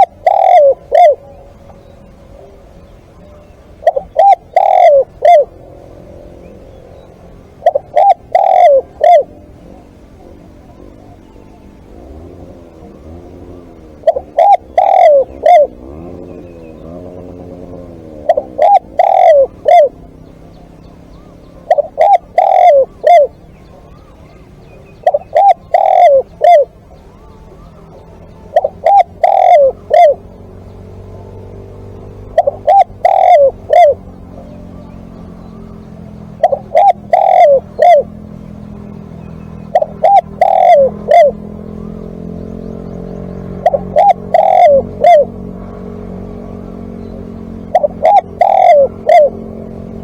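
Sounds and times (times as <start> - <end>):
dove cooing: 0.0 - 50.0.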